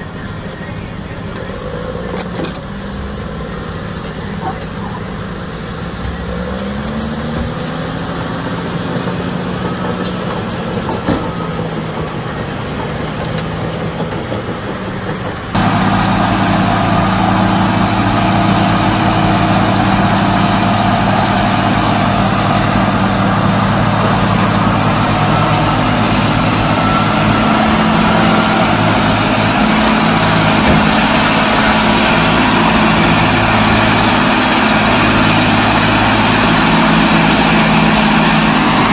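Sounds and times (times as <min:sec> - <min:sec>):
dump truck diesel engine revving: 0:00.0 - 0:38.9
tractor diesel engines droning: 0:00.0 - 0:38.9.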